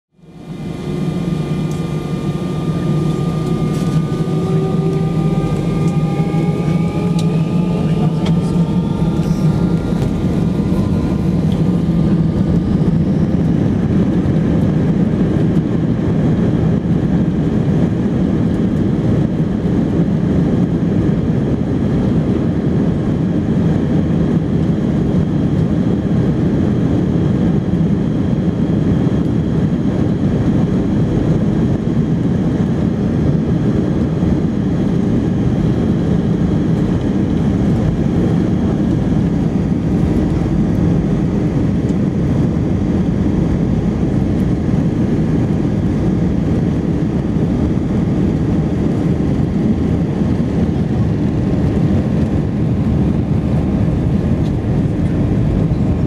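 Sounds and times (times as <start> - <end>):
jet engine drone in cabin: 0.2 - 56.0.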